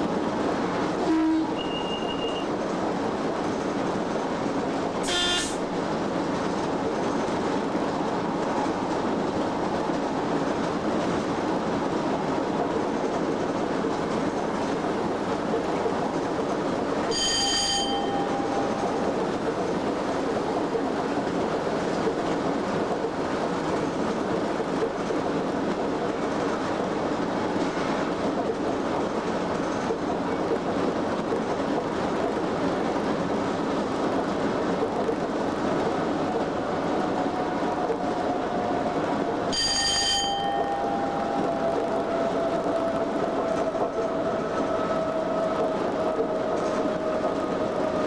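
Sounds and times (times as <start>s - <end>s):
locomotive cab running noise: 0.0s - 48.0s.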